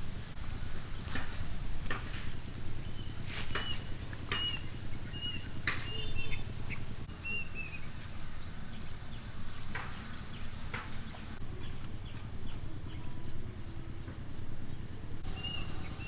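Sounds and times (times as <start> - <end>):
bird chirping: 2.2 - 16.0.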